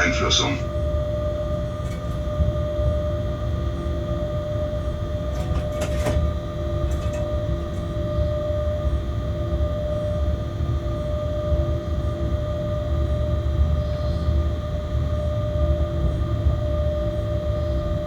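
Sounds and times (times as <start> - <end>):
train rumble with whine: 0.0 - 18.0.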